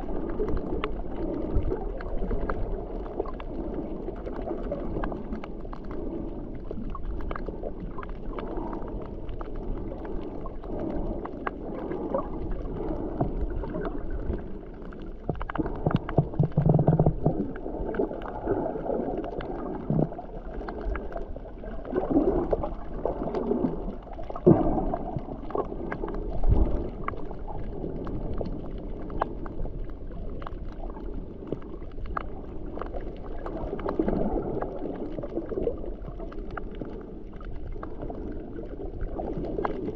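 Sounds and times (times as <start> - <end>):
water sloshing against hull: 0.0 - 39.9.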